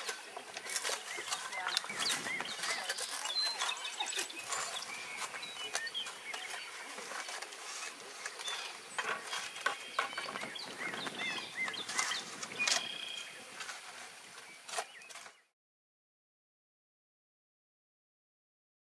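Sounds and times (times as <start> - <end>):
hand tools scraping in dirt: 0.0 - 15.5
small birds chirping: 0.0 - 15.5.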